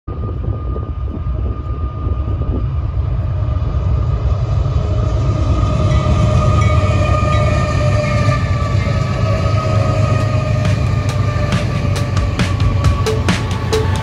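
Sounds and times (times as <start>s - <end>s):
freight train rumbling past: 0.1s - 14.0s.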